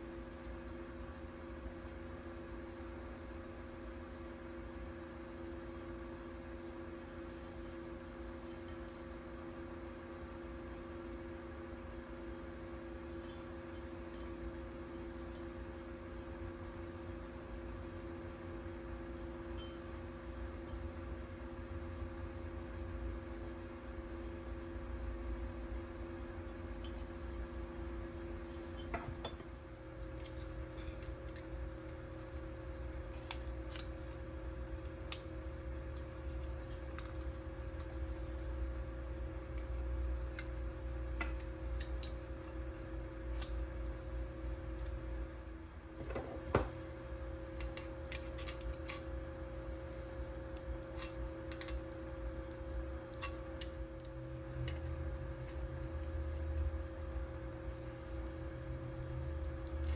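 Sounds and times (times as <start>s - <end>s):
low hum of running equipment: 0.0s - 59.9s.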